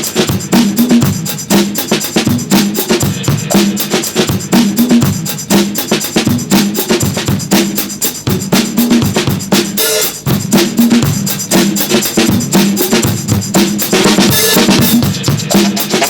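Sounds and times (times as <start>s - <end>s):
fast drum-kit beat: 0.0s - 16.0s.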